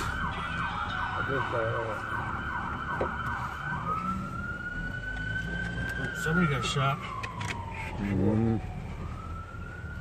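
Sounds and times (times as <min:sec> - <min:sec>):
emergency vehicle sirens: 0:00.0 - 0:10.0.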